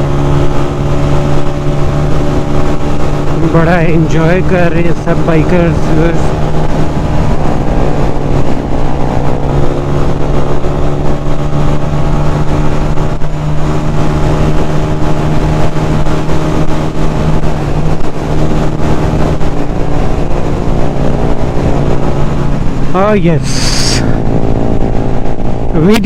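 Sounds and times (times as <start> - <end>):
motorcycle engine cruising: 0.0 - 26.0
wind rumbling on microphone: 0.0 - 26.0.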